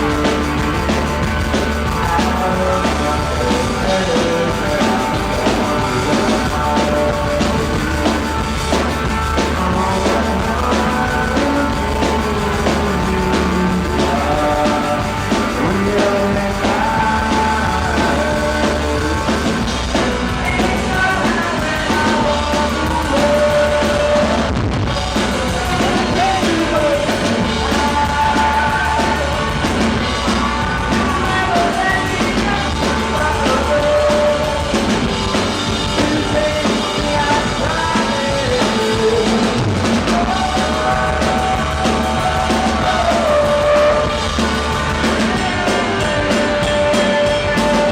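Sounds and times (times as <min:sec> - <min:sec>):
person singing: 0:00.0 - 0:47.9
rock band playing live: 0:00.0 - 0:47.9.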